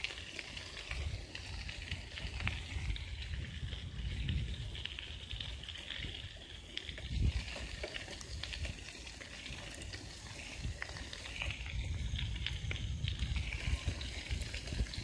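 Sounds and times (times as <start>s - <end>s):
bicycle tyres crackling on gravel: 0.0s - 15.0s
wind rumbling on microphone: 0.0s - 15.0s.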